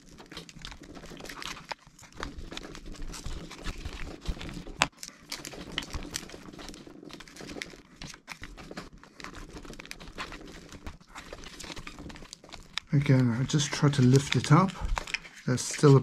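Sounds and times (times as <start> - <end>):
adhesive crackling and peeling: 0.0 - 16.0
small clicks and scrapes: 0.0 - 16.0.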